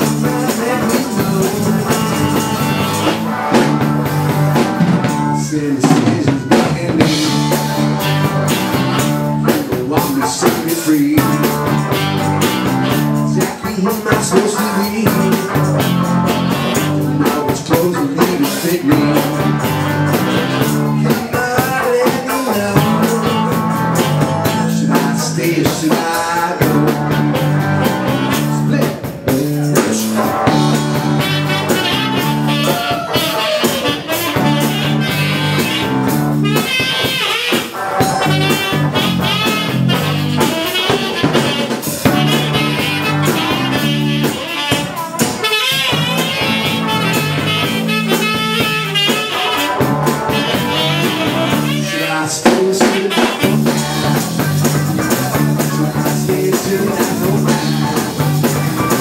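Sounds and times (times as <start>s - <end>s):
repeating bass line: 0.0s - 21.4s, 22.6s - 25.7s, 26.6s - 37.2s, 37.8s - 59.0s
drum kit: 0.0s - 59.0s.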